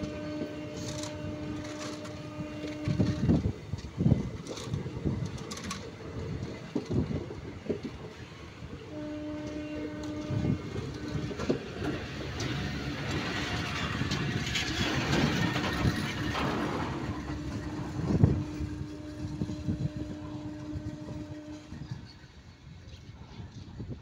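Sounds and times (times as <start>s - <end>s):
train wheels rattling on rails: 0.0s - 24.0s.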